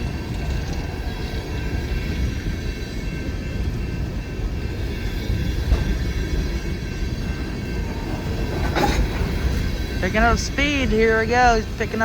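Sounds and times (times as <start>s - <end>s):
train cars rumbling past: 0.0s - 12.0s.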